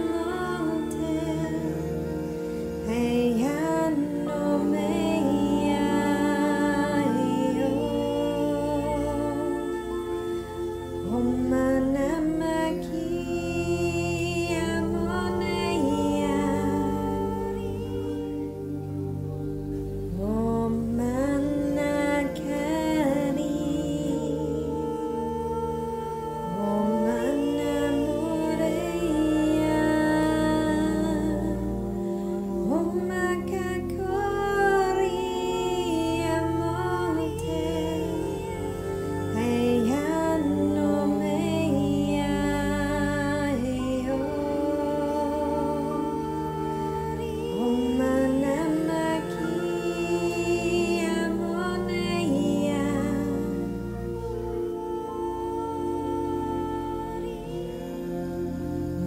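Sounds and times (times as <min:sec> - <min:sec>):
steady low drone: 0:00.0 - 0:59.0
wordless vocals humming: 0:00.0 - 0:59.0.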